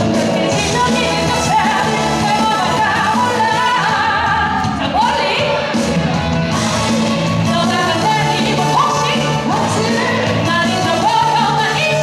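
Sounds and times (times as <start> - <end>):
woman singing into a microphone: 0.0 - 5.7, 7.4 - 12.0
backing music: 0.0 - 12.0.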